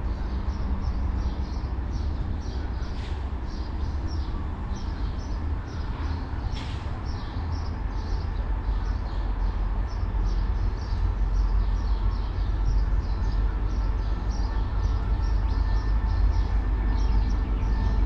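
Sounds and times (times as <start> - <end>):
diesel train rumble: 0.0 - 18.0.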